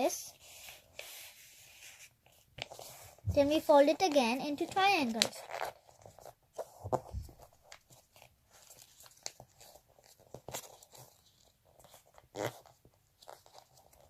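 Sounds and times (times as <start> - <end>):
paper folded and creased: 0.3 - 14.0.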